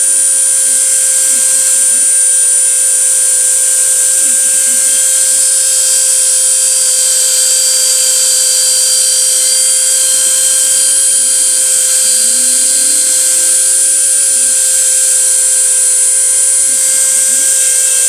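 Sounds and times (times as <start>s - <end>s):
router spindle whine: 0.0s - 18.0s.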